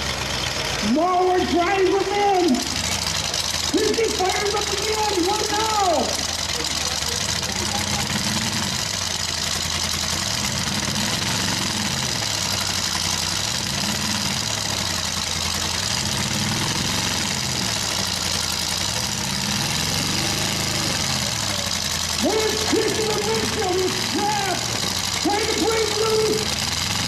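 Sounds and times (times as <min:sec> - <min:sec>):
truck engines revving: 0:00.0 - 0:27.0.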